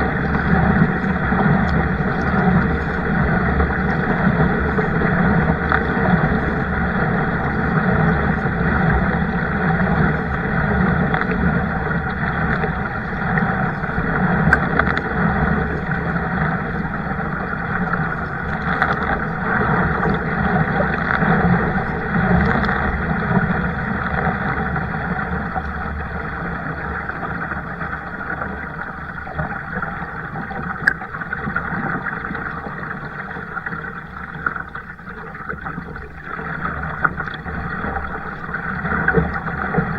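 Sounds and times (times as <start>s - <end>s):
water and wind rushing around kayak: 0.0s - 39.9s.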